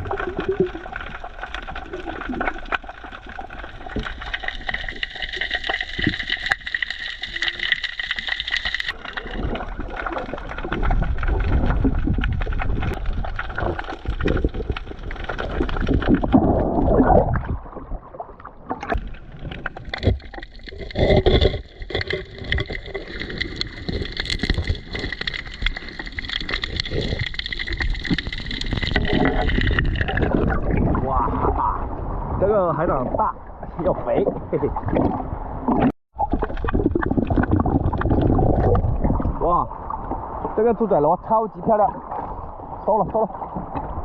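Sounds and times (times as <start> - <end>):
water sloshing and gurgling: 0.0 - 44.0.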